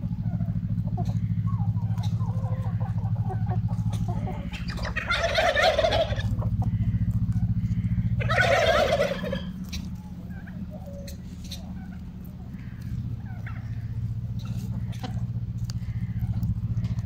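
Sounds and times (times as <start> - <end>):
hens calling: 0.0 - 17.0
steady low hum: 0.0 - 17.0.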